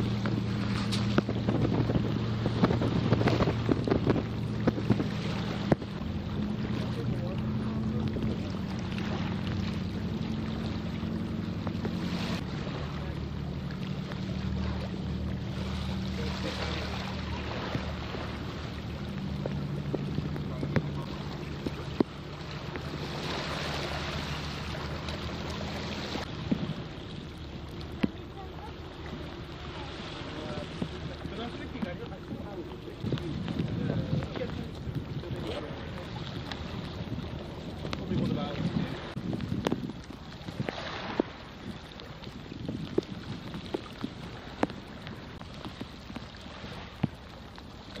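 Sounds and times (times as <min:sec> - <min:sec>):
boat engine drone: 0:00.0 - 0:48.0
rushing wash of water: 0:00.0 - 0:48.0
wind rumbling on microphone: 0:00.0 - 0:48.0.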